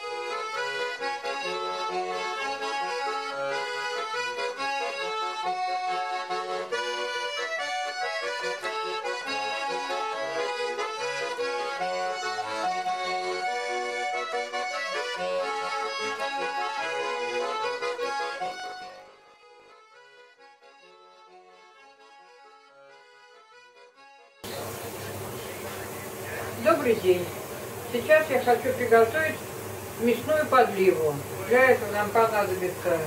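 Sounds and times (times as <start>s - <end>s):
lively accordion tune: 0.0s - 33.0s.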